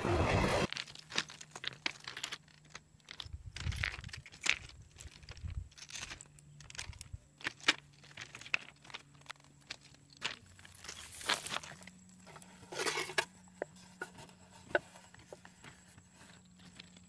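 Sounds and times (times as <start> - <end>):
footsteps crunching on gravel: 0.6 - 17.0.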